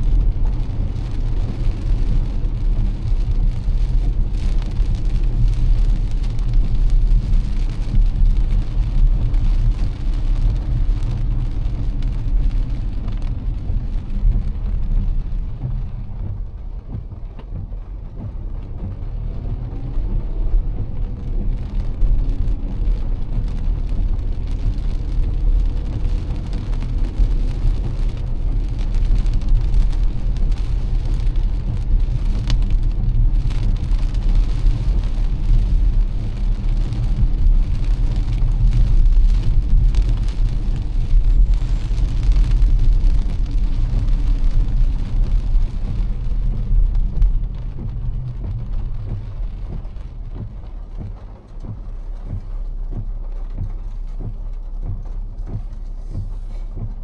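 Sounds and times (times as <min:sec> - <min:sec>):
heavy rain: 0:00.0 - 0:57.0
road noise rumble: 0:00.0 - 0:57.0
wet tyres hissing: 0:00.0 - 0:57.0.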